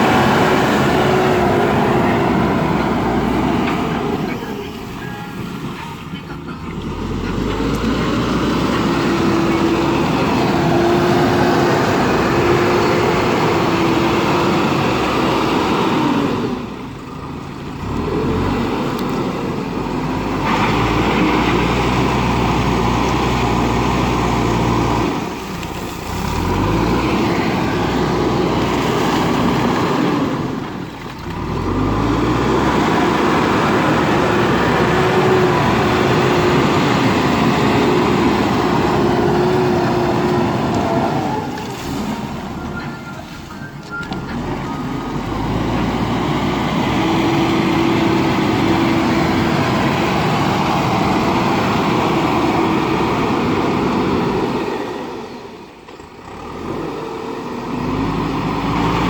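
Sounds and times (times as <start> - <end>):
diesel engine working hard: 0.0 - 59.0.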